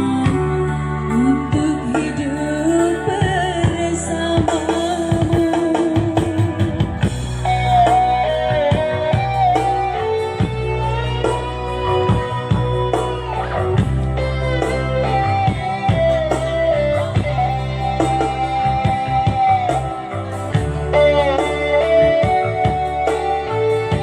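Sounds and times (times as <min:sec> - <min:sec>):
bass: 0:00.0 - 0:24.0
guitar: 0:00.0 - 0:24.0
live band music: 0:00.0 - 0:24.0.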